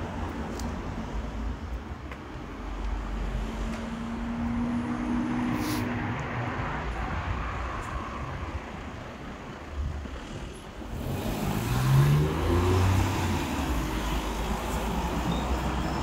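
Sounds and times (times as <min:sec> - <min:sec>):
street traffic noise: 0:00.0 - 0:16.0.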